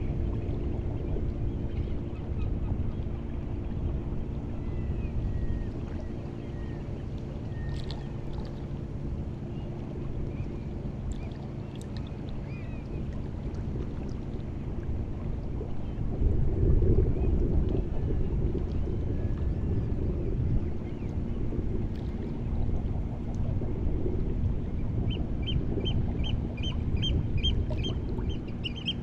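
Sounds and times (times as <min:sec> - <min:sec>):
distant motorboat engine droning: 0:00.0 - 0:29.0
rush of wind or water: 0:00.0 - 0:29.0.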